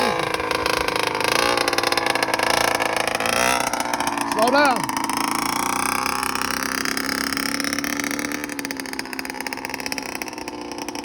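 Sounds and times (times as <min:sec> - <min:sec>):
two-stroke motorbike engine: 0:00.0 - 0:11.0.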